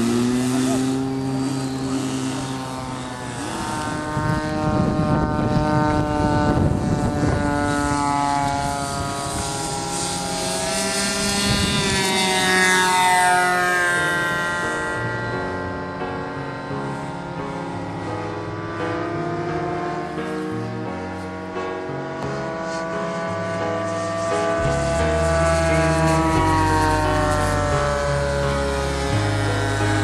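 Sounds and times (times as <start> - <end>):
model plane engine and propeller: 0.0 - 30.0.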